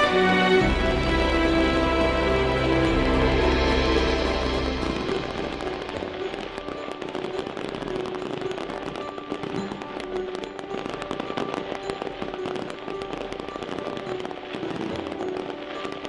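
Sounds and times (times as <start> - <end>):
fireworks pops and bangs: 2.4 - 16.0.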